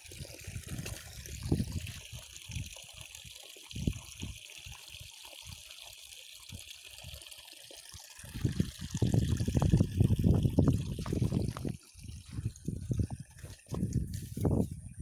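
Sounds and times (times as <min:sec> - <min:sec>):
water trickling and flowing: 0:00.0 - 0:15.0.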